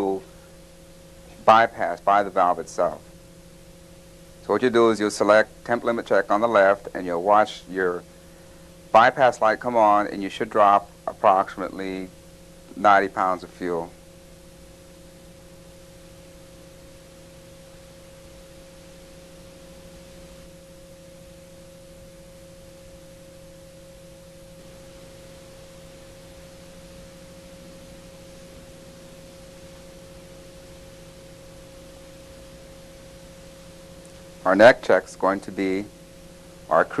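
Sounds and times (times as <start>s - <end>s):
constant hiss: 0.0s - 37.0s
steady tonal hum: 0.0s - 37.0s.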